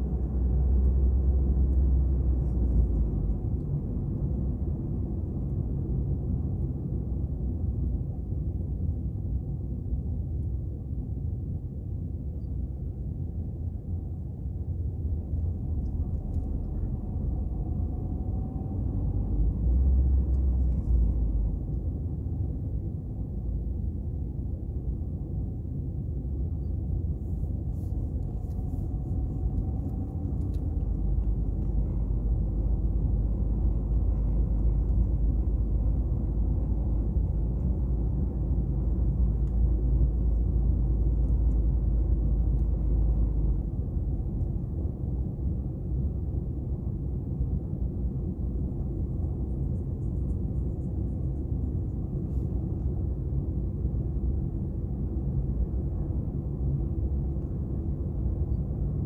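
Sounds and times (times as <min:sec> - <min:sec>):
car engine and tyres rumbling: 0:00.0 - 0:12.0, 0:12.6 - 0:59.0.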